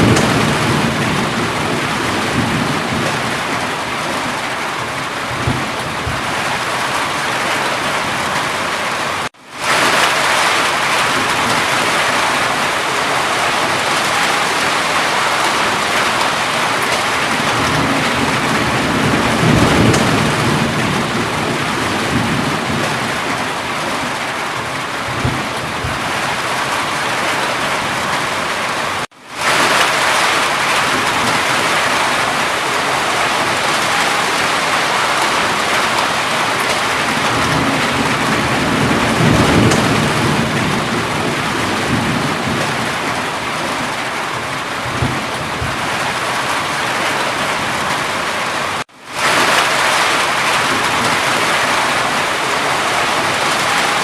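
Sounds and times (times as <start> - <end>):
thunder rolls: 0.0 - 8.6, 9.6 - 28.3, 29.4 - 48.3
heavy rain: 0.0 - 54.0.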